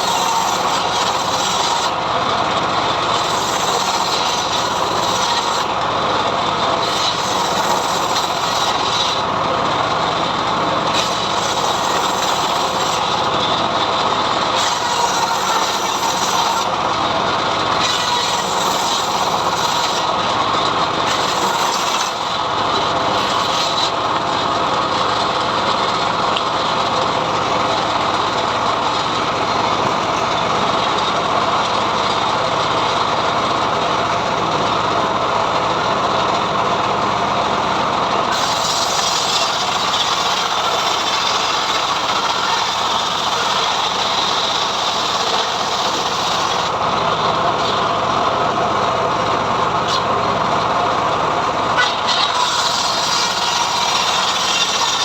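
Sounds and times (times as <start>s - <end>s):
sawmill cutting a log: 0.0s - 55.0s.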